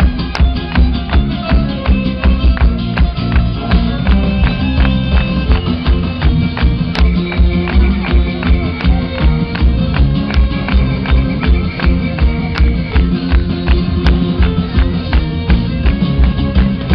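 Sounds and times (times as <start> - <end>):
guitar: 0.0 - 16.9
live band playing: 0.0 - 16.9.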